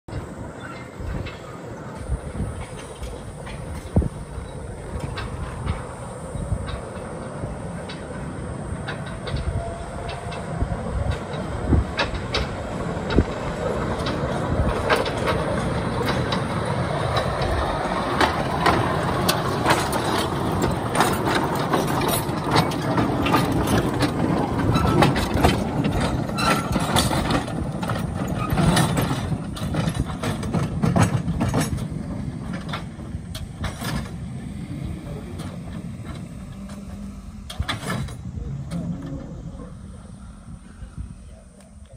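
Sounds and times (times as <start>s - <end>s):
track clicks and knocks: 0.1s - 39.6s
mine train rumbling and clattering: 0.1s - 41.9s.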